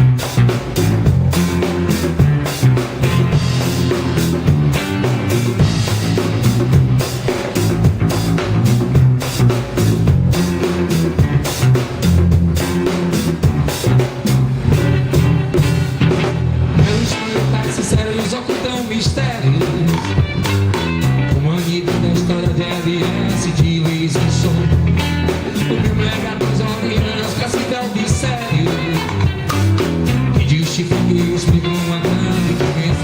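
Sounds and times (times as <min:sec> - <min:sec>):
bass line: 0:00.0 - 0:33.0
driving drum beat: 0:00.0 - 0:33.0
guitar: 0:00.0 - 0:33.0
live band playing dance song: 0:00.0 - 0:33.0.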